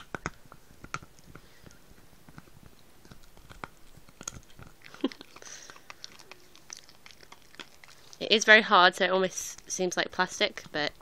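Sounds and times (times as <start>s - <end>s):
dog gnawing a hard chew: 0.0s - 11.0s.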